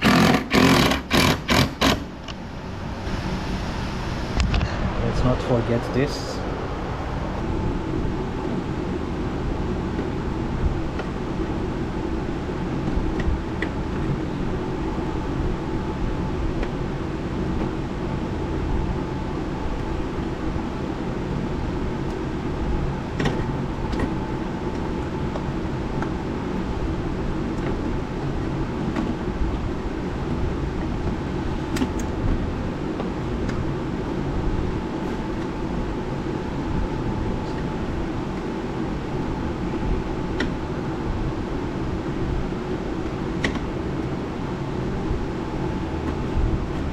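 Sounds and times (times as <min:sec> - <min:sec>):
steady mechanical hum: 0:00.0 - 0:46.9.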